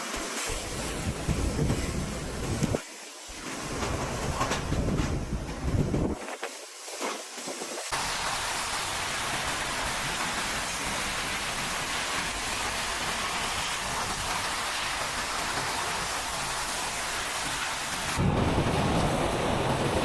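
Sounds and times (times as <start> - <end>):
heavy rain pouring: 0.0 - 6.8, 7.6 - 20.0.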